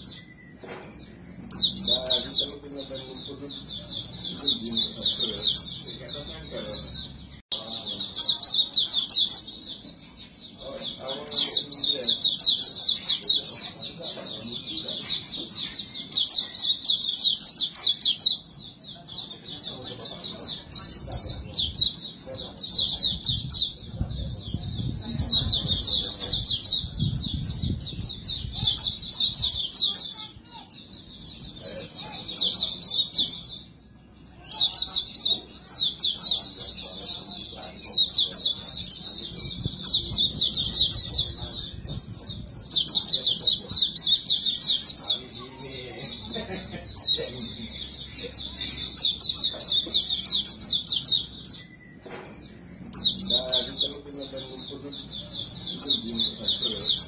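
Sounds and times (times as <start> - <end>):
bird singing high twittering song: 0.0 - 57.0.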